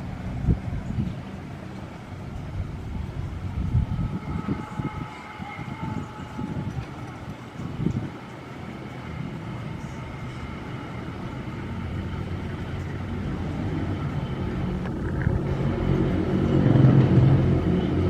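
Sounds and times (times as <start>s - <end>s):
locomotive engine drone: 0.0s - 18.0s.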